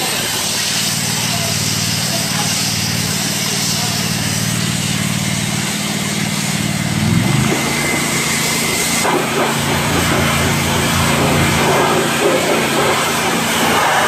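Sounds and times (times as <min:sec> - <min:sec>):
foam spray hiss: 0:00.0 - 0:14.0
pressure washer motor hum: 0:00.0 - 0:14.0.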